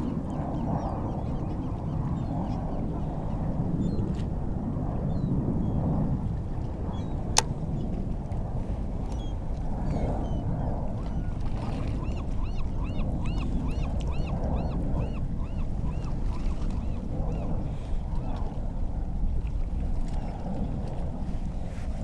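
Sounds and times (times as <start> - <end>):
water: 0.0 - 22.0
wind: 0.0 - 22.0.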